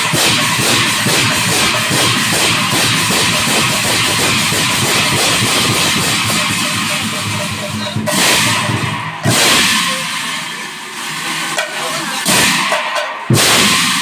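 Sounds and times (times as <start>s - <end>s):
brass cymbals clashing: 0.0s - 14.0s
kettle drum strokes: 0.0s - 14.0s.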